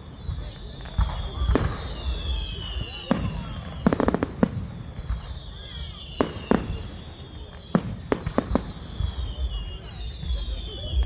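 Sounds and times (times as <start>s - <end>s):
firework cracks and bangs: 0.0s - 11.0s
firework whistles: 0.0s - 11.0s.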